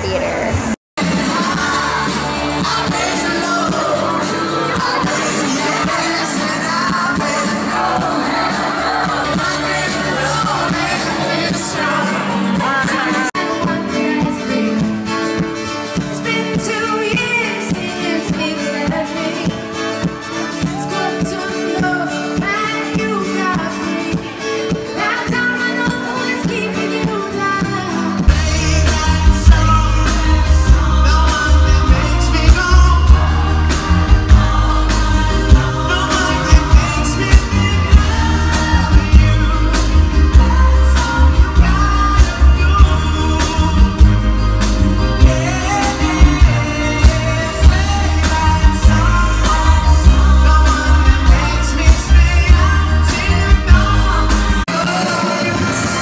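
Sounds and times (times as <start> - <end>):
drums and bass: 0.0 - 56.0
live pop-rock band: 0.0 - 56.0
lead singer singing: 1.0 - 56.0.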